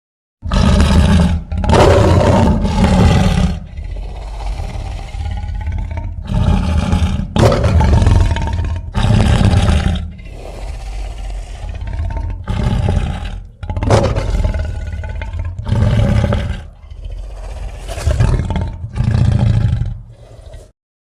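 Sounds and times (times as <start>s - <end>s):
deep monster roars: 0.4s - 20.8s.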